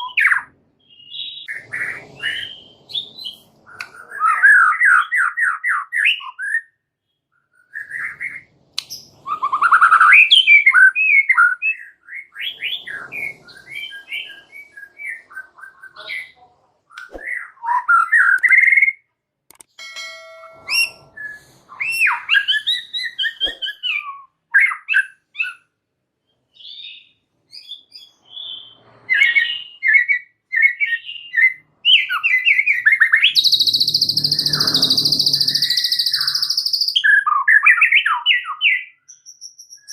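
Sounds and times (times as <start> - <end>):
bird singing: 0.0 - 19.1, 20.0 - 39.9.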